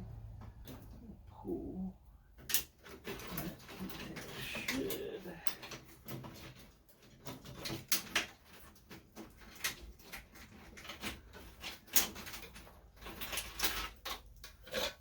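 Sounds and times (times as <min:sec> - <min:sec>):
clicks and scrapes of handled parts: 0:02.3 - 0:15.0.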